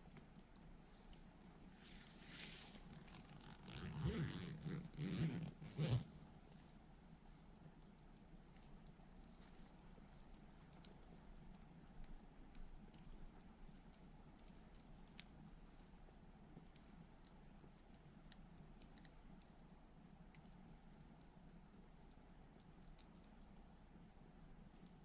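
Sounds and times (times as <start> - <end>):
campfire crackling: 0.0 - 25.0
faint low background: 0.0 - 25.0.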